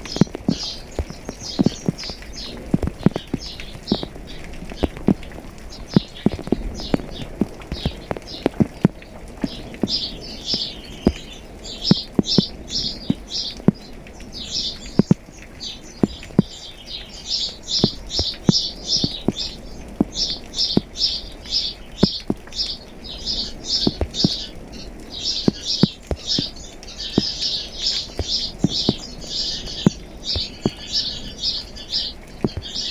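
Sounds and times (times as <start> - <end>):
large raindrops tapping: 0.0 - 32.9
rain falling: 0.0 - 32.9
songbird chirping: 0.0 - 32.9.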